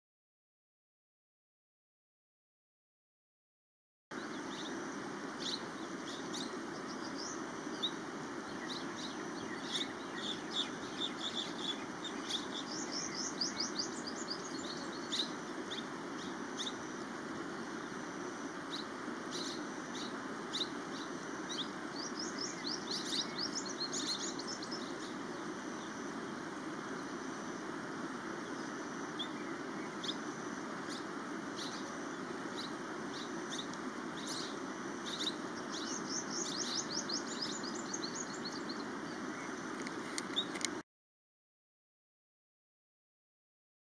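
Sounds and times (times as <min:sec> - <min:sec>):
small birds chirping: 0:04.1 - 0:40.8
river flowing: 0:04.2 - 0:40.8.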